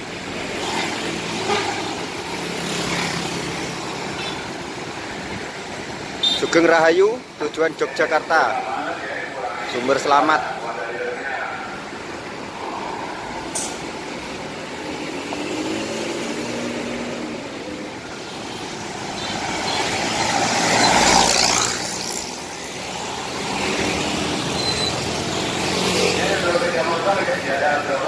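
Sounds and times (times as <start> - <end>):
bus engine passing: 0.0 - 6.2, 6.9 - 28.0.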